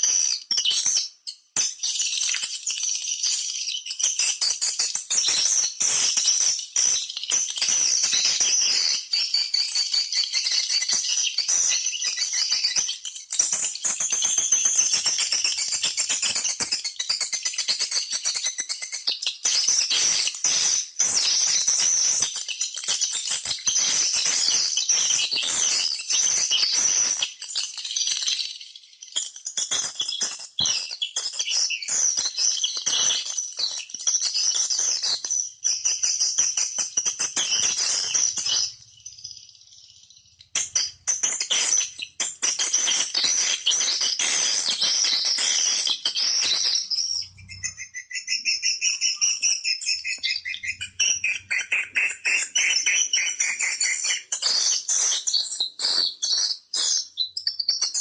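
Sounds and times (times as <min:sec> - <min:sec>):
swiftlet twittering chirps and clicks: 0:08.0 - 0:58.0.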